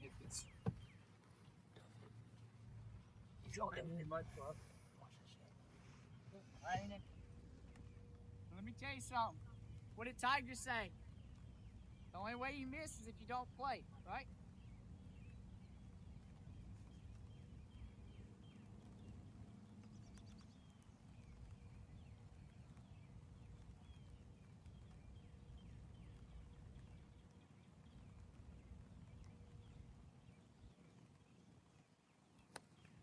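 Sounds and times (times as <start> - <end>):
small birds chirping: 0.0 - 33.0
low steady rumble: 1.9 - 31.7.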